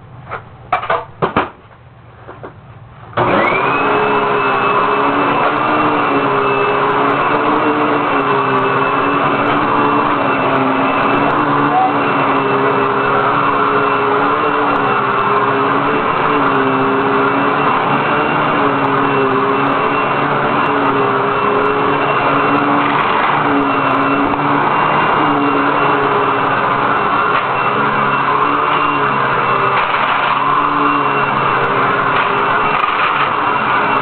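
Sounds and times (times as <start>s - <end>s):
upright vacuum cleaner running: 3.1s - 34.0s.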